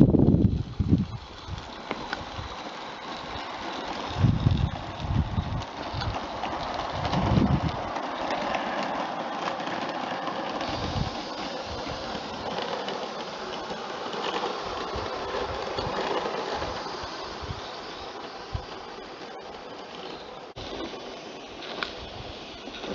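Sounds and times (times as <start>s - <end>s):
model train clicking and rattling: 0.0s - 22.9s.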